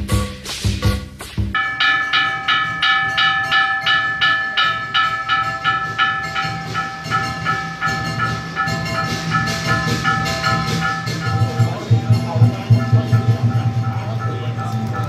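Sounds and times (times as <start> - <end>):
low drumming: 0.0 - 15.0
metal bell instrument struck rapidly: 1.5 - 15.0.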